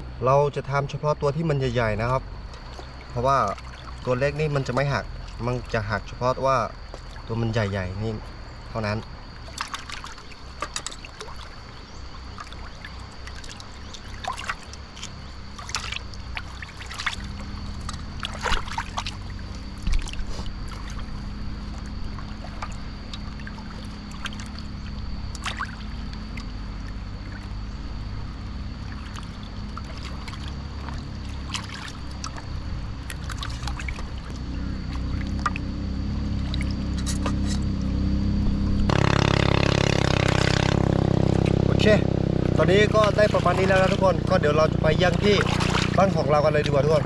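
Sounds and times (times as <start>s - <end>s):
river water running: 0.0s - 47.0s.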